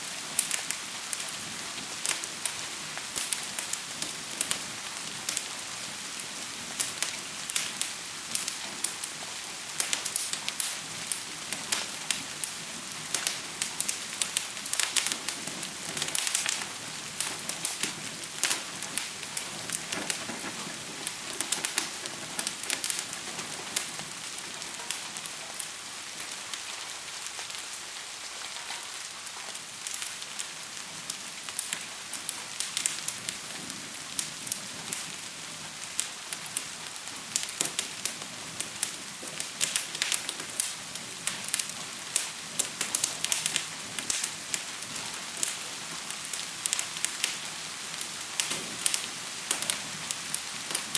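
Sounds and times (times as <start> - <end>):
rain hissing: 0.0 - 50.9
wood fire crackling and popping: 0.0 - 50.9.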